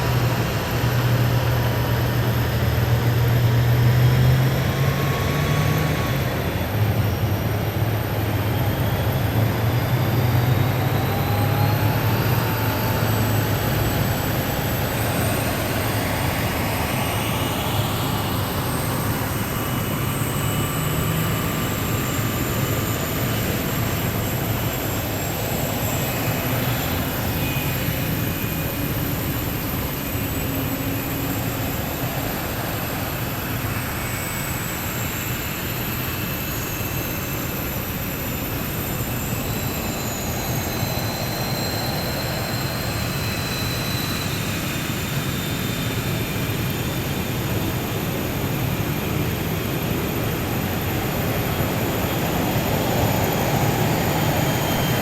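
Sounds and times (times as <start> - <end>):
faint high gliding whines: 0.0 - 55.0.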